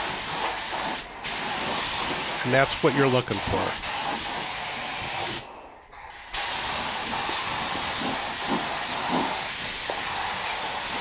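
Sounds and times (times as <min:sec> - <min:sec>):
paint spray gun hissing: 0:00.0 - 0:05.5, 0:06.1 - 0:11.0.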